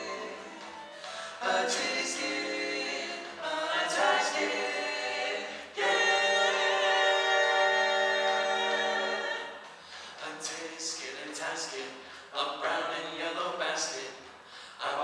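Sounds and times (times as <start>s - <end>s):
male vocal quartet singing a cappella: 0.0s - 15.0s.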